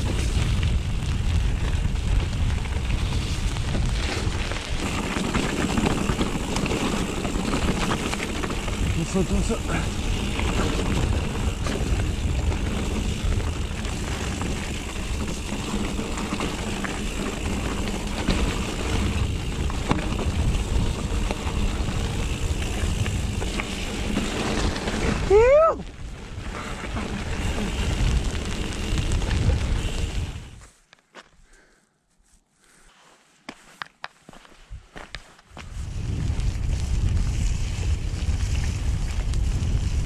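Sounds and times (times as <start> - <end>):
wind buffeting microphone: 0.0 - 30.6, 34.7 - 40.0
bike tyres rumbling on dirt: 0.0 - 31.7, 34.3 - 40.0.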